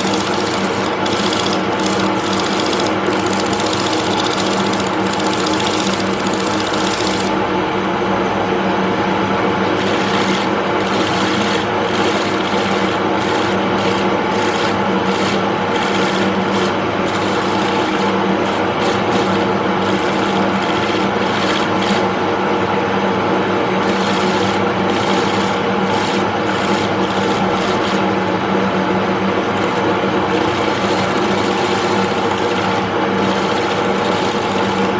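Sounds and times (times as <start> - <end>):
turning tool cutting wood: 0.0 - 7.5, 9.7 - 22.5, 23.8 - 28.2, 29.4 - 34.9
wood lathe motor running: 0.0 - 7.8, 9.6 - 34.9.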